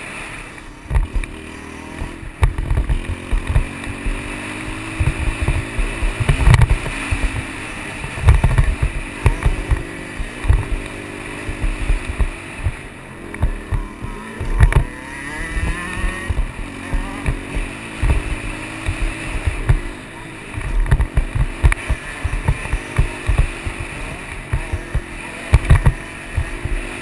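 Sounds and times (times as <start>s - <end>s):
dirt bike engine revving: 0.0s - 27.0s
low thumps: 2.0s - 26.9s.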